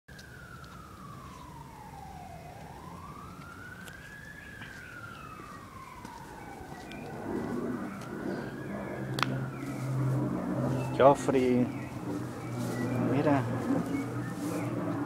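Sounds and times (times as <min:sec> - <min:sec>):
siren wailing: 0:00.1 - 0:15.0.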